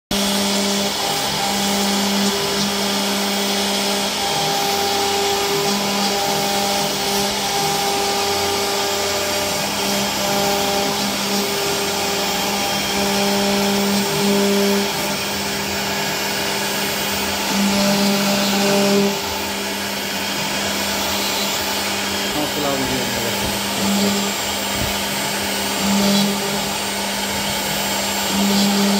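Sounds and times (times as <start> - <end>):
cnc router spindle hum: 0.1 - 28.9.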